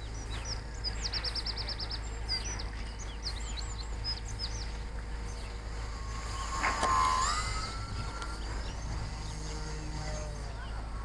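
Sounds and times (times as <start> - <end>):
bird trill: 0.0 - 11.0
small birds singing: 0.0 - 11.0
steady low rumble: 0.0 - 11.0.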